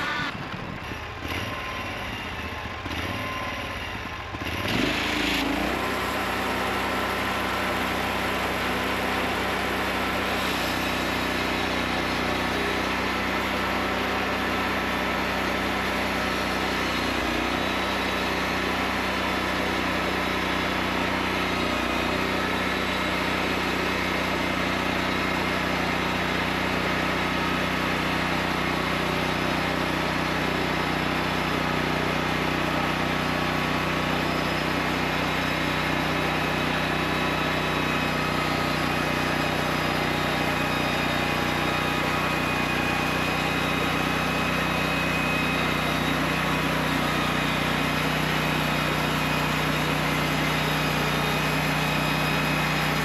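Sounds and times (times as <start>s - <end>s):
sawmill engine running steadily: 0.0s - 53.0s.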